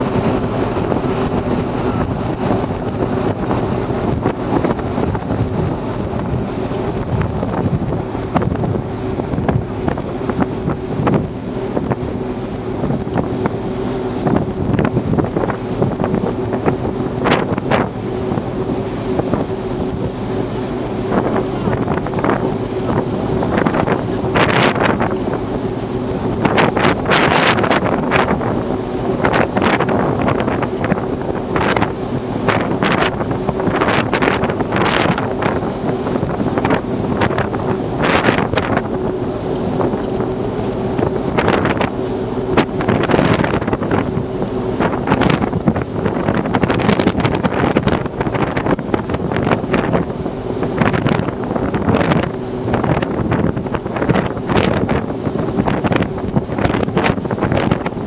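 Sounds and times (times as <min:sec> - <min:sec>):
low hum: 0:00.0 - 0:55.0
wind and rain on microphone: 0:00.0 - 0:58.0.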